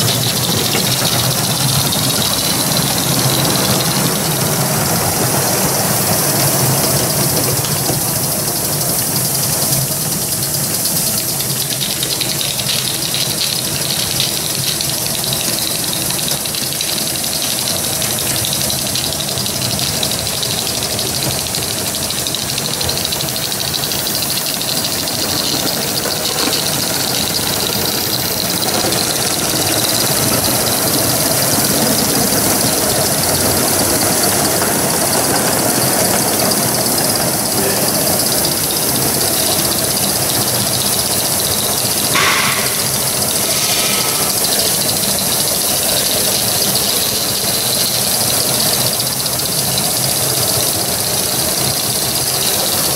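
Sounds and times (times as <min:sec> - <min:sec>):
steam exhaust hissing: 0:00.0 - 0:52.9.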